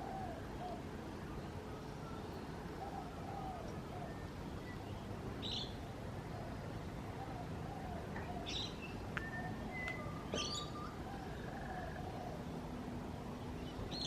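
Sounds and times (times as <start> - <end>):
low background noise: 0.0 - 14.0
lower wavering bird calls: 0.0 - 14.0.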